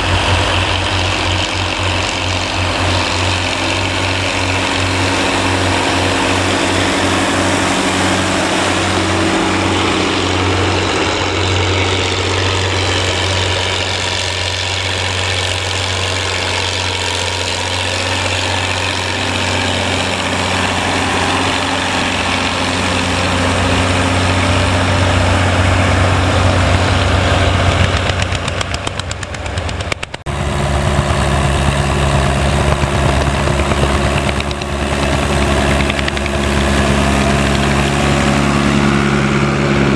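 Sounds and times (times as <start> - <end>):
engine with deep heavy throb: 0.0 - 39.9
tractor engine running: 0.0 - 39.9.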